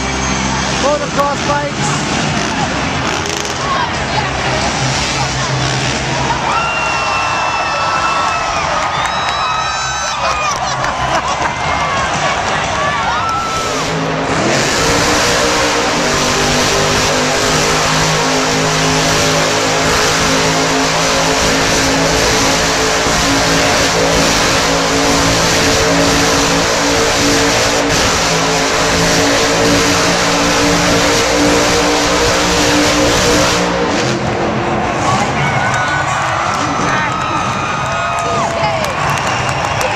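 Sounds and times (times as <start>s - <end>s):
loud vehicle engines: 0.0s - 39.9s.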